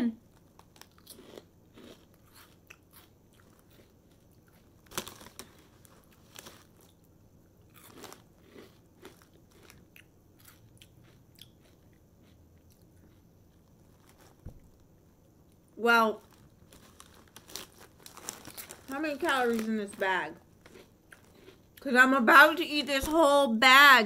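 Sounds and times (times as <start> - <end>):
person chewing crunchy crisps: 0.2 - 21.9.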